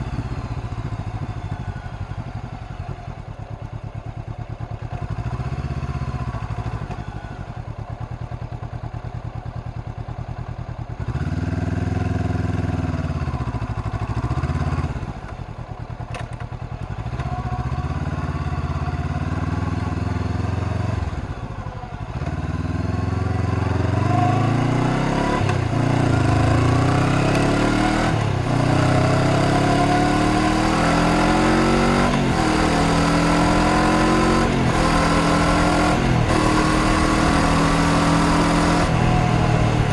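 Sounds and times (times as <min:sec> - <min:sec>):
motorcycle engine revving: 0:00.0 - 0:03.4, 0:04.2 - 0:08.4, 0:10.9 - 0:39.9.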